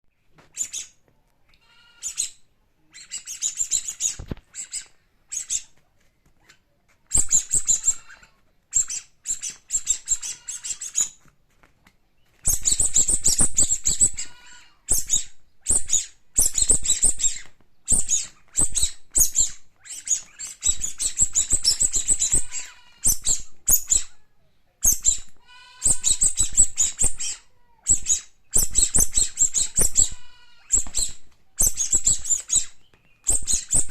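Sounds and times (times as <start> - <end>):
squeaky toys squeaking: 1.8 - 5.7, 6.4 - 11.2, 12.5 - 24.2, 24.8 - 33.9.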